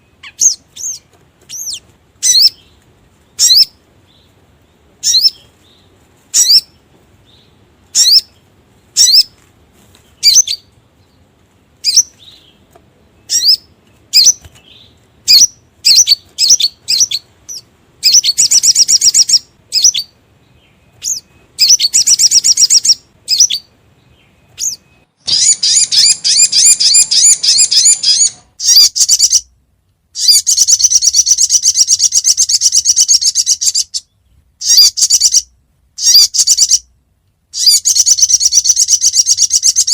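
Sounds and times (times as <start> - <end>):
recorded bird call: 0.0 - 39.9.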